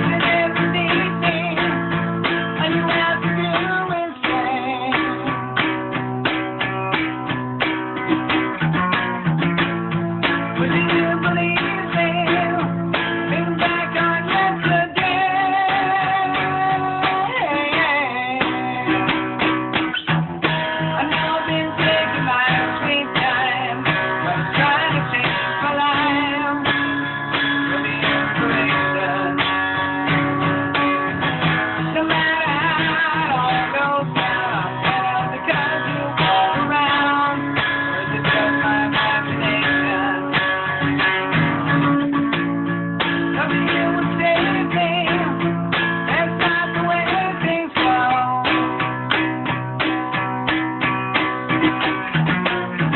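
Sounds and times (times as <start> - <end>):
guitar chords: 0.0 - 52.9.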